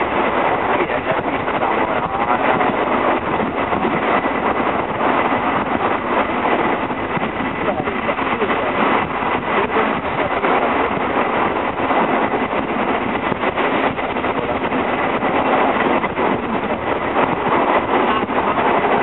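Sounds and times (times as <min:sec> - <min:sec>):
moving train running noise: 0:00.0 - 0:19.0.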